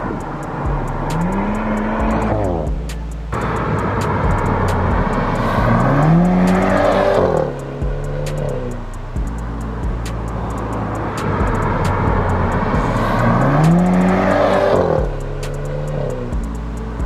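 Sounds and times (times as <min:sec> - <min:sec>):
car engine revving: 0:00.0 - 0:17.0
low exhaust rumble: 0:00.0 - 0:17.0.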